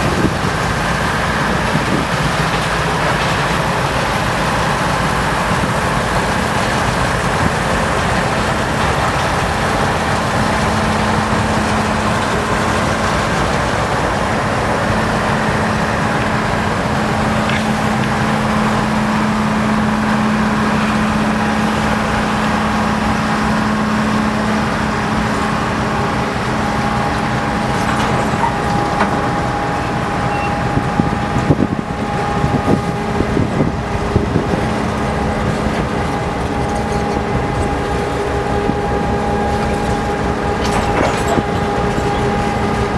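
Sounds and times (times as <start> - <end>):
diesel locomotive engine drone: 0.0 - 42.9.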